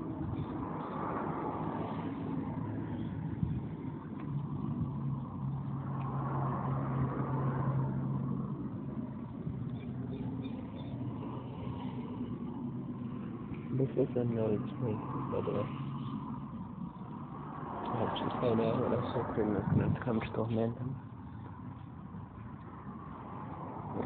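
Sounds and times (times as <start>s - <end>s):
road noise: 0.0s - 24.0s
vehicle engine hum: 0.0s - 24.0s.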